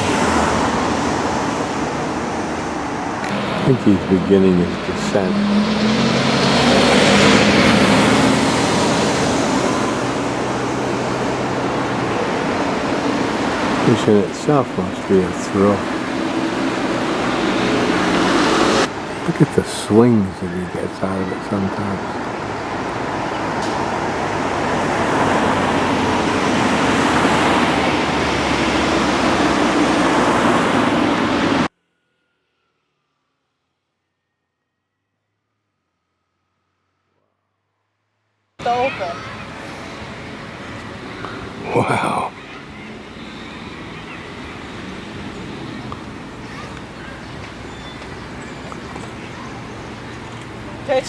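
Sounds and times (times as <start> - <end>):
vehicle passing by: 0.0 - 32.3, 38.6 - 51.0
steady traffic noise: 0.0 - 32.8, 38.6 - 51.0.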